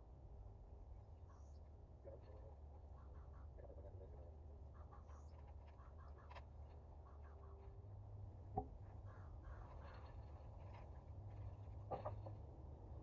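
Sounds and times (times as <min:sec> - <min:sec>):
faint scratching and rustling: 0:00.3 - 0:08.0, 0:08.7 - 0:12.4.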